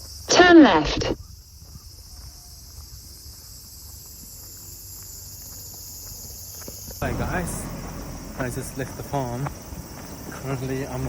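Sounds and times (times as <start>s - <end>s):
insects singing: 0.0s - 11.0s.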